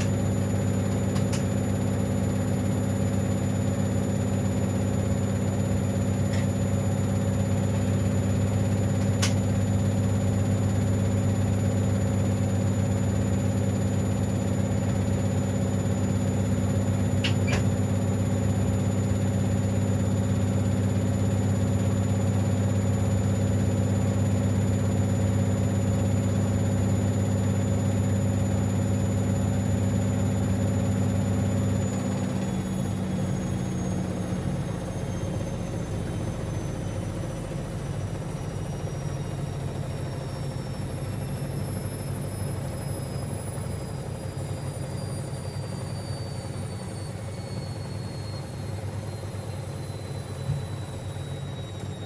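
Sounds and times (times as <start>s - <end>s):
washing machine spinning: 0.0s - 52.0s.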